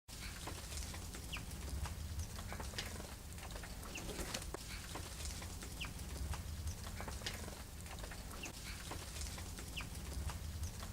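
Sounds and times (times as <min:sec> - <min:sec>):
small birds chirping: 0:00.2 - 0:10.9.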